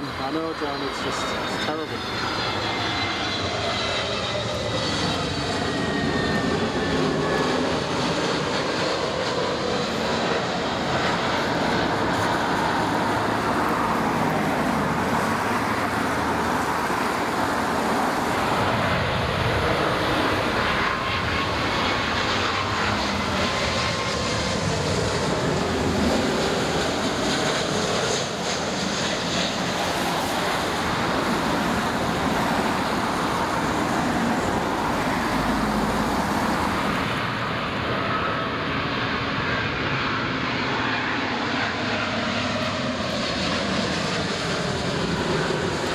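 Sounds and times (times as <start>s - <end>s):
jet airliner engines passing: 0.0s - 45.9s.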